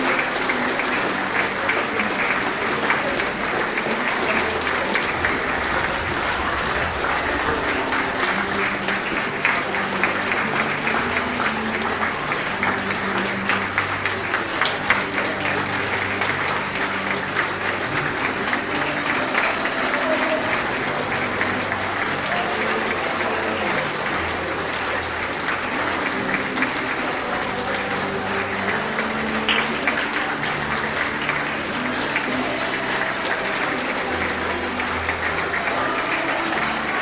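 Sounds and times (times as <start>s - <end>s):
audience clapping: 0.0s - 37.0s.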